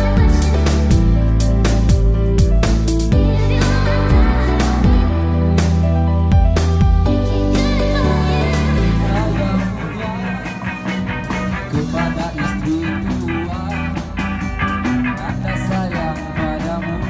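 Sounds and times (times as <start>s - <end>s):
rock band music: 0.0s - 17.0s.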